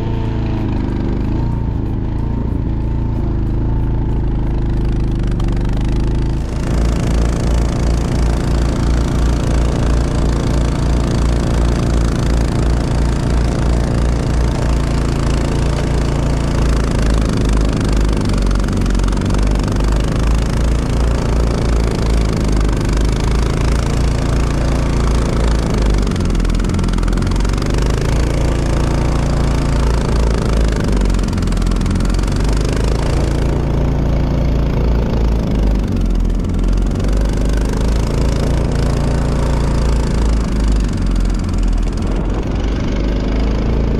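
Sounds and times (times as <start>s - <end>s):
engine running with low rumble: 0.0s - 43.9s.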